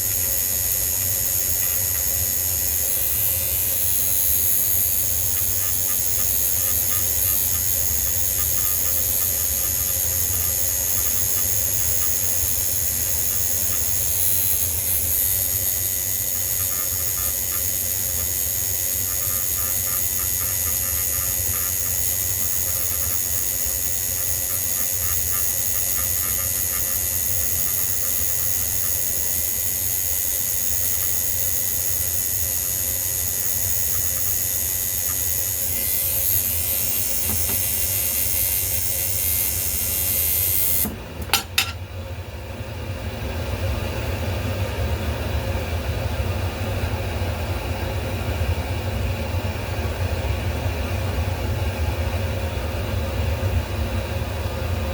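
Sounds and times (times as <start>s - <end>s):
machine hum with high whine: 0.0s - 54.9s.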